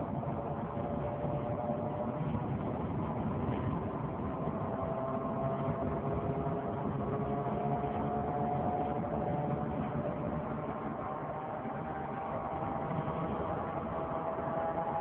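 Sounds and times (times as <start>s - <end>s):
whining drone from car wheel: 0.0s - 15.0s.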